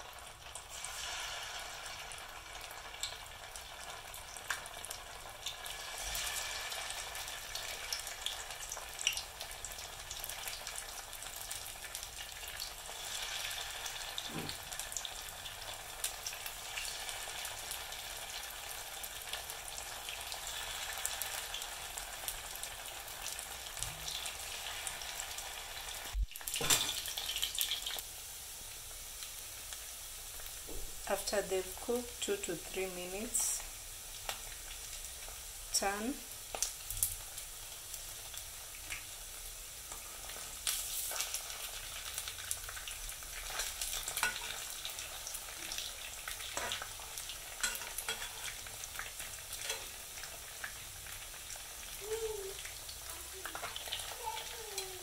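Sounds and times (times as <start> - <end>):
deep-frying sizzle with pops: 0.0 - 55.0.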